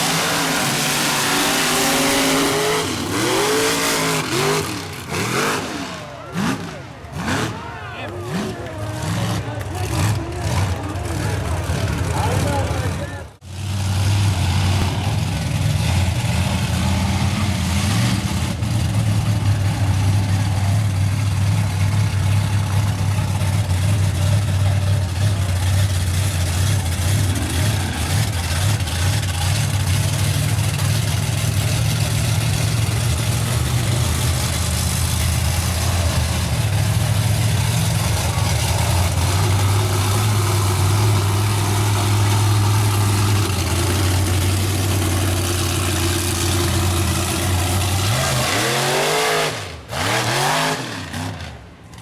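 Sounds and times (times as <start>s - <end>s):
truck engine idling: 0.0s - 50.3s
outdoor noise: 0.0s - 52.0s.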